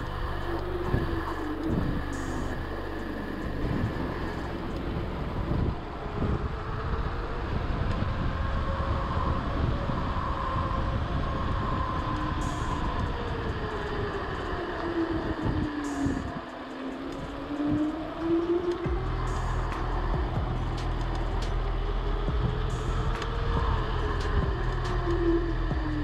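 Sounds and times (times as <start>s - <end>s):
bike tyres humming on asphalt: 0.0s - 26.0s
wind rumble on microphone: 0.0s - 26.0s.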